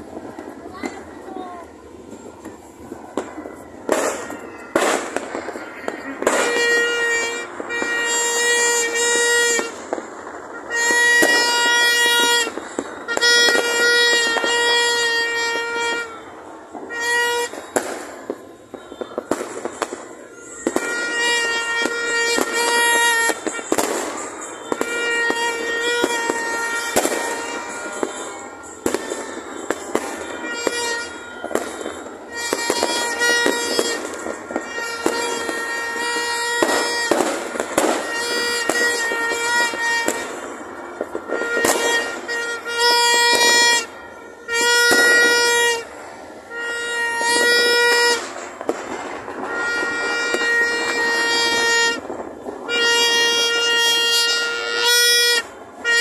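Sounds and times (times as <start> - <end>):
fireworks popping and banging: 0.0 - 56.0
horn-like tone: 3.2 - 56.0.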